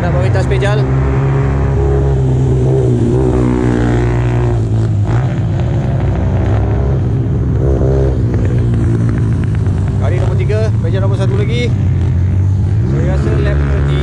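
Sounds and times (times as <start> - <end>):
motorcycle engines racing: 0.0 - 14.0.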